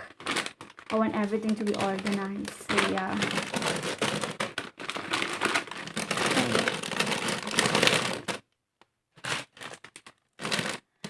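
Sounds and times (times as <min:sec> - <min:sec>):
plastic snack bags crinkling: 0:00.0 - 0:08.5, 0:09.1 - 0:11.0.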